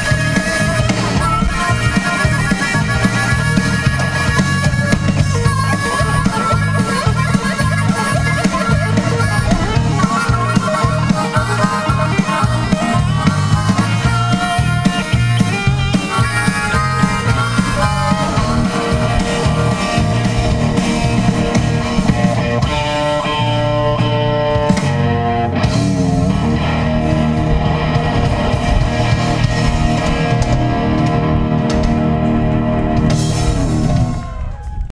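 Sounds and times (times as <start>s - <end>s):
bass guitar: 0.0s - 34.9s
drum kit: 0.0s - 34.9s
electric guitars: 0.0s - 34.9s.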